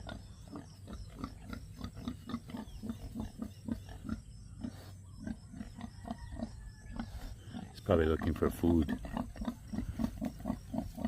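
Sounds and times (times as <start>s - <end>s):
pig grunting: 0.0s - 11.0s.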